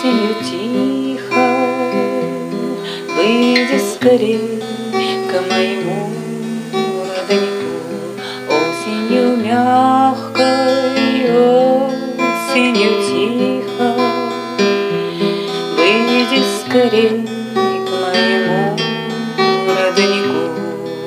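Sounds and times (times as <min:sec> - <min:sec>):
acoustic guitar ballad music: 0:00.0 - 0:21.0.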